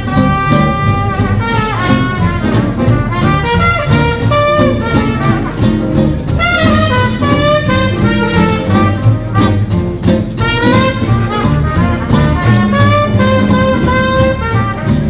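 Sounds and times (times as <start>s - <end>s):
brass horn melody: 0.0s - 15.0s
swing band playing: 0.0s - 15.0s.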